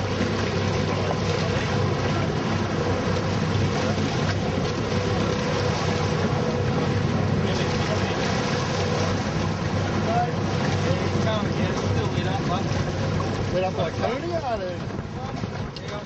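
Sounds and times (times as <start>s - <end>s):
boat engine humming: 0.0s - 16.0s
water noise: 0.0s - 16.0s
wind: 0.0s - 16.0s.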